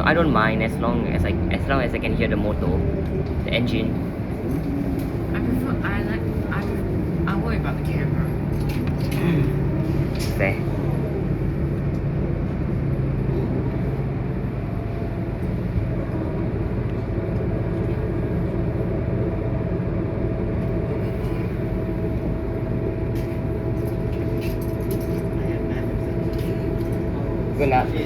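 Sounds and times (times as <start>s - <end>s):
bus engine drone with whine: 0.0s - 28.0s.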